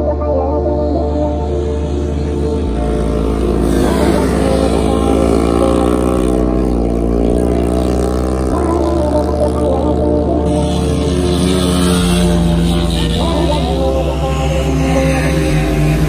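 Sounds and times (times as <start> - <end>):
low bass tone: 0.0 - 16.0
motorcycle engines revving: 0.0 - 16.0.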